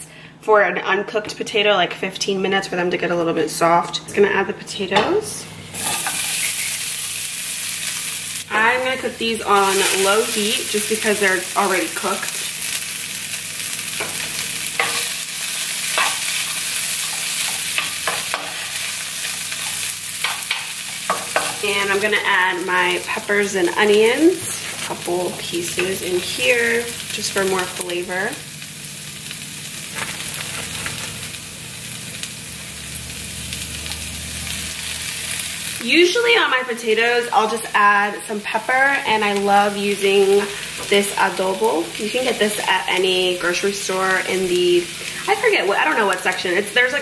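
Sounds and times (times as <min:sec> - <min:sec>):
potatoes sizzling in oil: 0:05.7 - 0:47.0.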